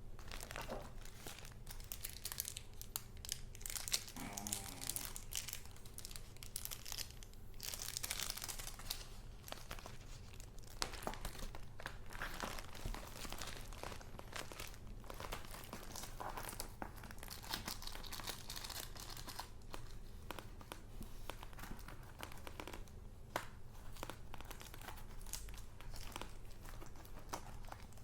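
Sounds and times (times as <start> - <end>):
paper crinkling and rustling: 0.2 - 28.0.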